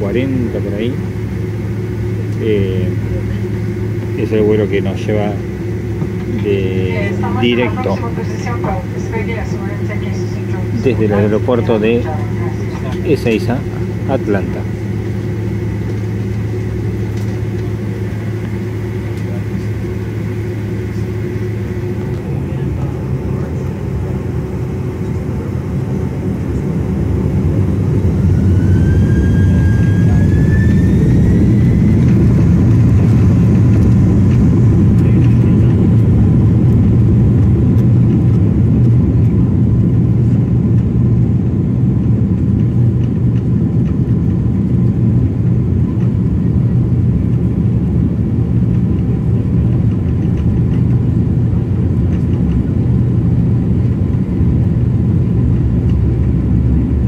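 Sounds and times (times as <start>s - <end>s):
jet engine rumble in cabin: 0.0s - 57.0s
jet engine whine rising: 0.0s - 57.0s.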